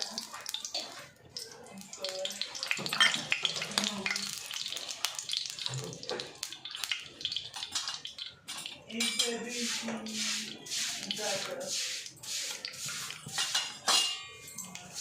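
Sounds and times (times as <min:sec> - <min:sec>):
water running and splashing: 0:00.0 - 0:13.7.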